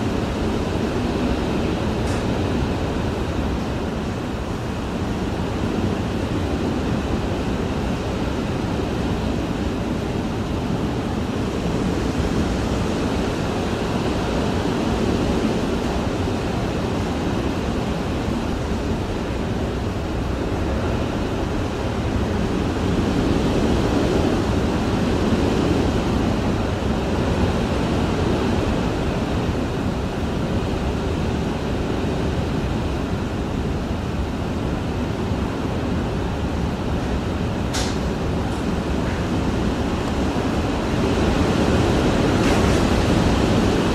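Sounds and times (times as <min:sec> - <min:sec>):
wind gusting against house: 0:00.0 - 0:43.9.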